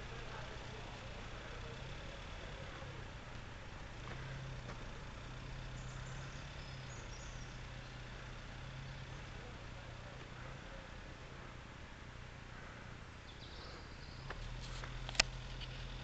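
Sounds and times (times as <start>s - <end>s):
truck diesel engine hum: 0.0s - 16.0s.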